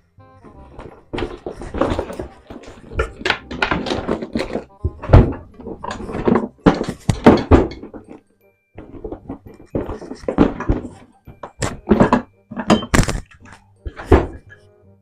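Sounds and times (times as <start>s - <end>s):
faint music: 0.0s - 15.0s
dull thuds and knocks: 0.4s - 8.2s, 8.8s - 14.6s.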